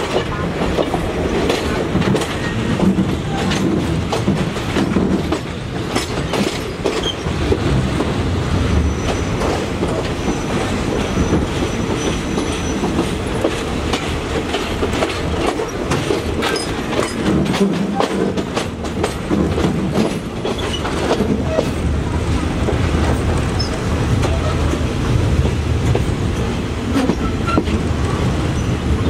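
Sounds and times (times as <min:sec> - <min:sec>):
train low rumble: 0:00.0 - 0:29.0
train wheels clacking over rail joints: 0:00.0 - 0:29.0.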